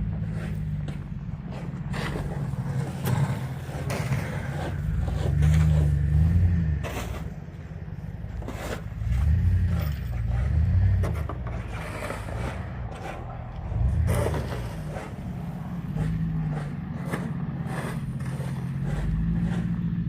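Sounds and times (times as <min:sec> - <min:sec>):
scraping and crunching: 0:00.0 - 0:20.0
vehicle engine revving: 0:00.0 - 0:20.0.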